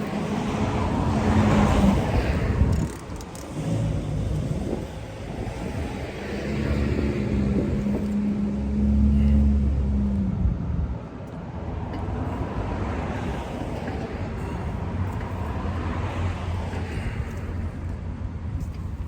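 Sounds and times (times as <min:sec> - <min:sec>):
low engine hum: 0:00.0 - 0:19.0
traffic noise: 0:00.0 - 0:19.0.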